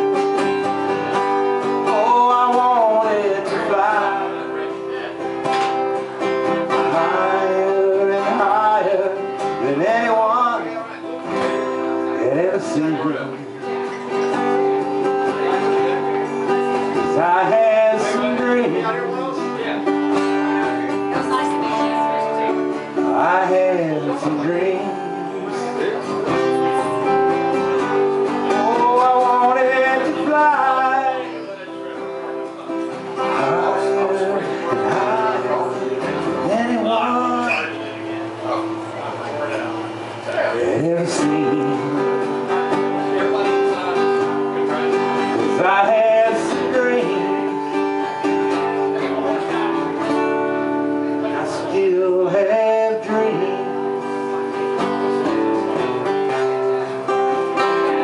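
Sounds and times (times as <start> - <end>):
man singing: 0.0 - 39.0, 39.6 - 58.0
acoustic guitar strumming: 0.0 - 58.0.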